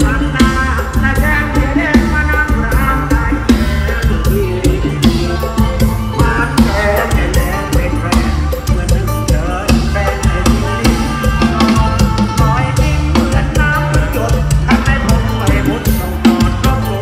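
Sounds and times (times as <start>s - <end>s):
bass: 0.0s - 17.0s
drum kit beat: 0.0s - 17.0s
live band music: 0.0s - 17.0s.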